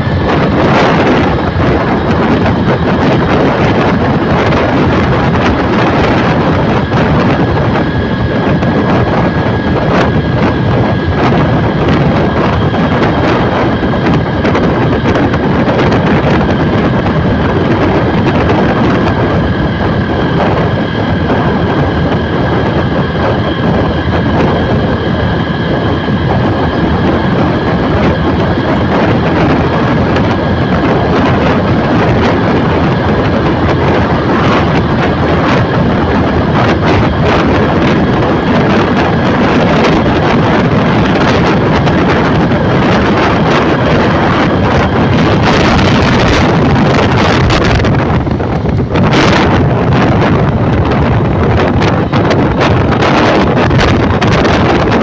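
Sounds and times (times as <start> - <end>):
vehicle rushing and rumbling: 0.0 - 55.0
wind on microphone: 0.0 - 55.0.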